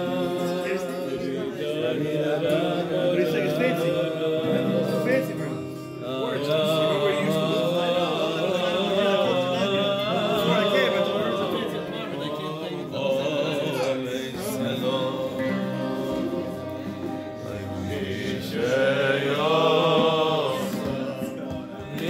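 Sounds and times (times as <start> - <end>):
acoustic guitar: 0.0 - 22.0
men singing together: 0.0 - 22.0.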